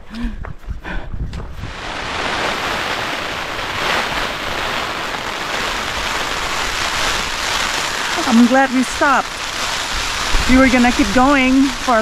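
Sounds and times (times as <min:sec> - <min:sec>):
heavy rain on a tent: 0:01.6 - 0:12.0.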